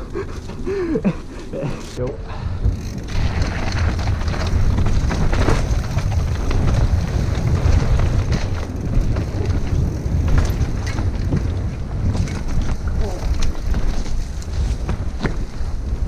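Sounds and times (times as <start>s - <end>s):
wind buffeting microphone: 2.2s - 16.0s
bike knocks and rattles: 2.6s - 16.0s
tyre noise on dirt: 2.6s - 16.0s.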